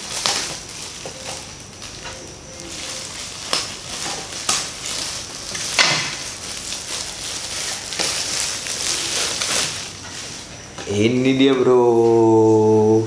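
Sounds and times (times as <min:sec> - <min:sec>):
sharp plastic crackles: 0:00.0 - 0:11.0
shrink wrap crinkling: 0:00.0 - 0:13.0.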